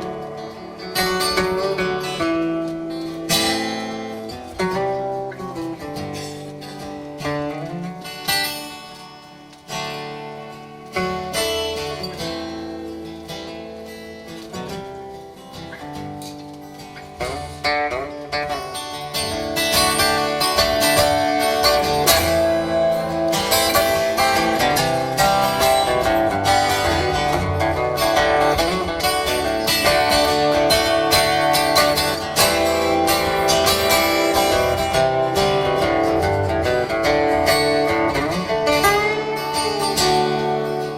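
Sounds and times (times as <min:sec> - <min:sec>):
live band playing guitar-led instrumental: 0:00.0 - 0:40.9.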